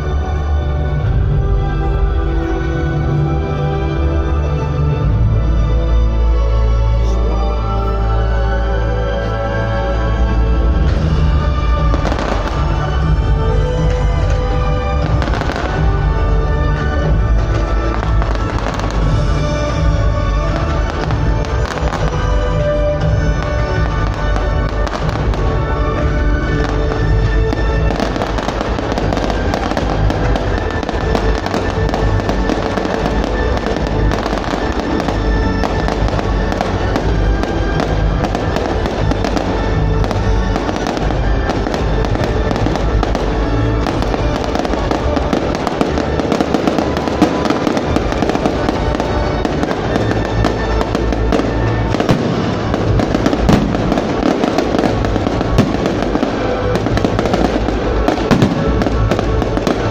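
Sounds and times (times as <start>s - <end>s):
loud recorded music: 0.0s - 59.9s
fireworks bangs and crackles: 10.6s - 59.9s.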